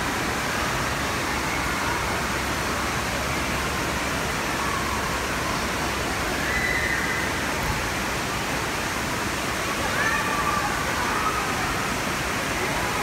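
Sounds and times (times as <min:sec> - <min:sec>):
water park rushing din: 0:00.0 - 0:13.0.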